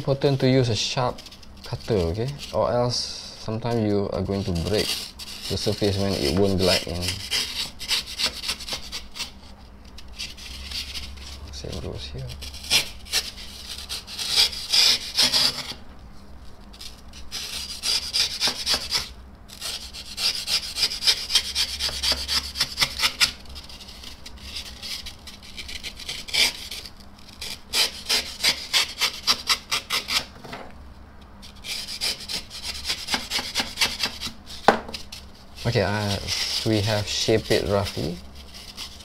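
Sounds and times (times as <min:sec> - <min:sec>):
knife blade scraping foam: 0:00.0 - 0:15.8, 0:16.7 - 0:30.4, 0:31.4 - 0:39.0.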